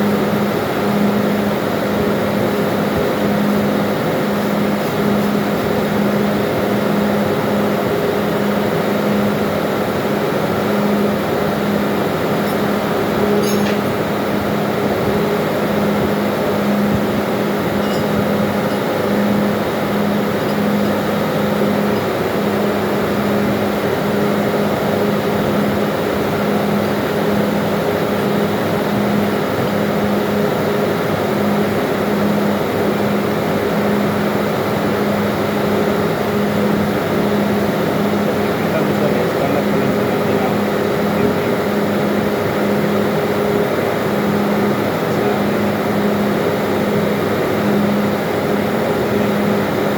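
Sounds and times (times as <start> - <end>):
engine-room machinery hum: 0.0 - 49.9.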